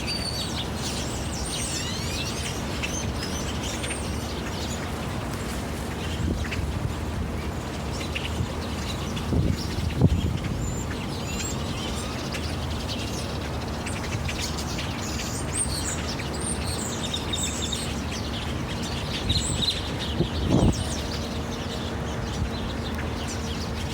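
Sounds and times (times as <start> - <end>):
birds chirping: 0.0 - 23.9
outdoor background noise: 0.0 - 23.9.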